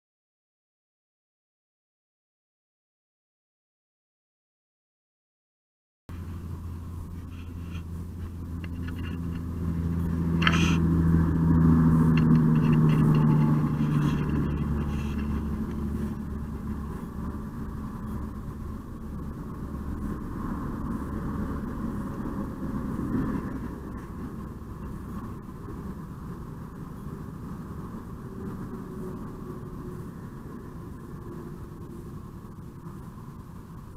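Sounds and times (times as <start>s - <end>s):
vehicle engine passing: 6.1s - 33.9s.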